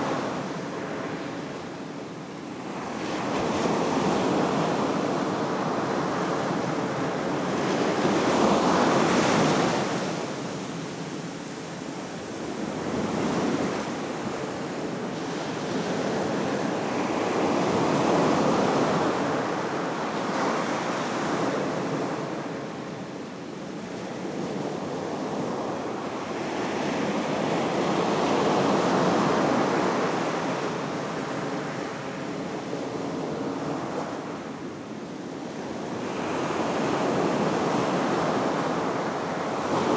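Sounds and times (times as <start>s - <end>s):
ocean surf breaking on a beach: 0.0s - 39.9s.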